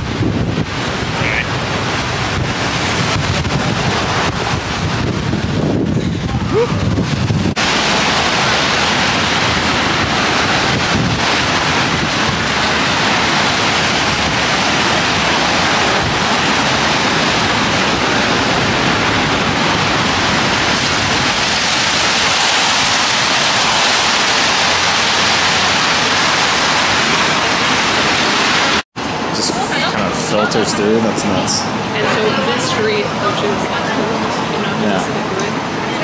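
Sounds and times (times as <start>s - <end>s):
wind on microphone: 0.0s - 28.8s
heavy rain: 0.0s - 36.0s.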